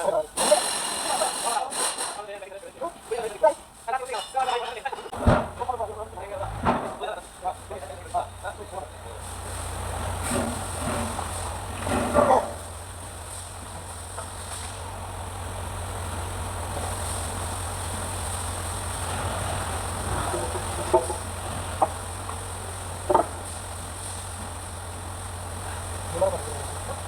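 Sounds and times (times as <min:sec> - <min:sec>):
diesel truck engine idling: 0:00.0 - 0:27.0.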